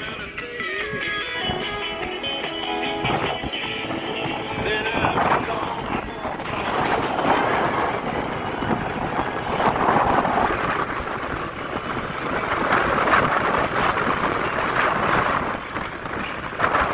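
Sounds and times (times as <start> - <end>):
road and traffic noise: 0.0 - 16.9
wind rushing over microphone: 0.0 - 16.9.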